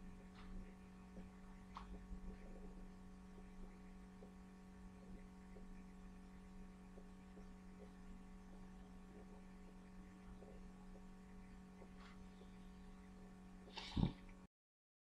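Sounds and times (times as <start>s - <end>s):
low electrical hum: 0.0s - 14.5s.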